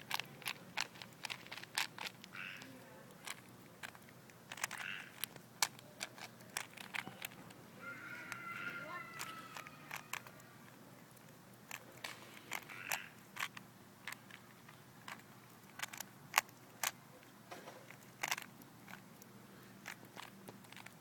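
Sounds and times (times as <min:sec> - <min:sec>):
puzzle cube plastic clicks: 0:00.0 - 0:21.0.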